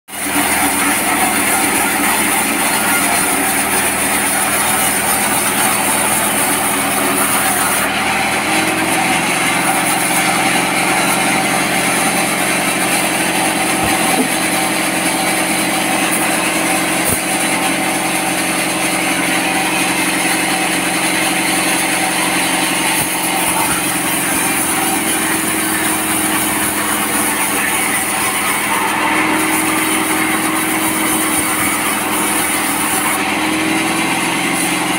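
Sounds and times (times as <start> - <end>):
band saw cutting log: 0.1 - 34.9.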